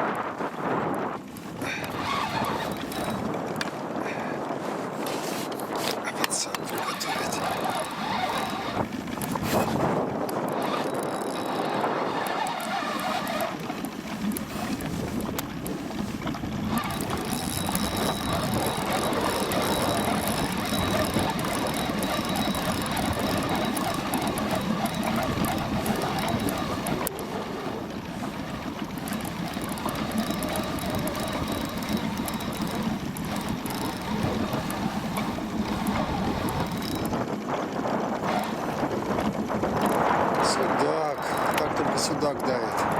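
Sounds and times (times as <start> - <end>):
water noise: 0.0 - 42.9
wind: 0.0 - 42.9
fishing reel whirring and clicking: 0.8 - 3.8, 5.5 - 42.9.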